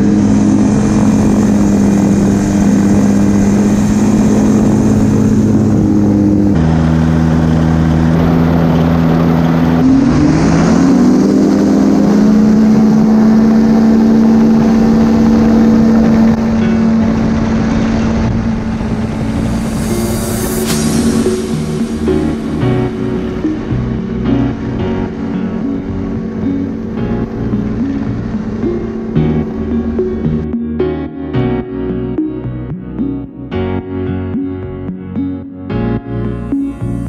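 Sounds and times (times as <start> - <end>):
propeller engine running: 0.0 - 37.0.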